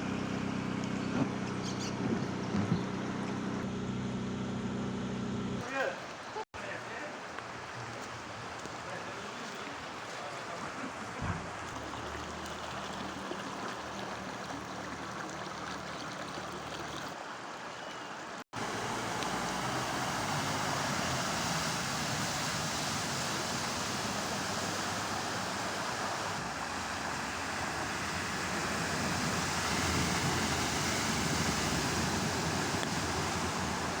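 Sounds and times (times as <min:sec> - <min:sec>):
floodwater rushing: 0:05.7 - 0:34.0.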